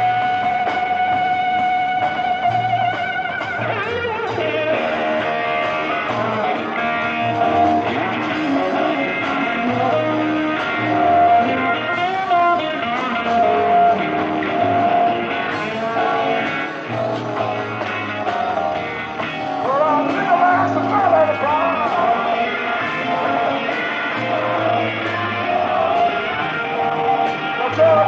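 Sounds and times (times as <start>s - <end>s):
bass line of low notes: 0.0s - 28.0s
drums: 0.0s - 28.0s
electric guitar sustained bending notes: 0.0s - 28.0s.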